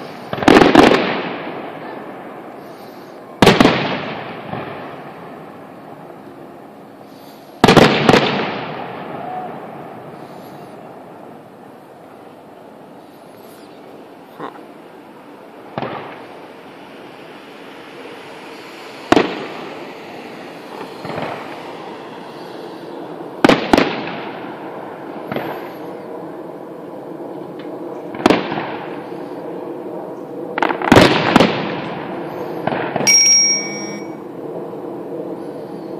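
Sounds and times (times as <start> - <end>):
distant fireworks bursting: 0.0 - 35.9.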